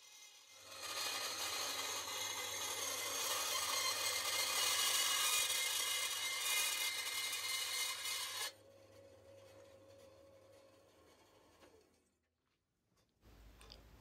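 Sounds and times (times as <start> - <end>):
bandsaw cutting aluminium: 0.0 - 11.9.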